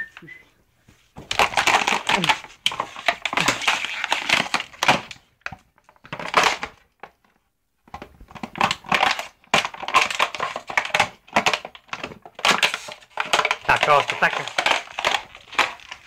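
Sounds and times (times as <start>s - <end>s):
plastic bottle crunching: 1.2s - 7.2s, 7.9s - 16.0s.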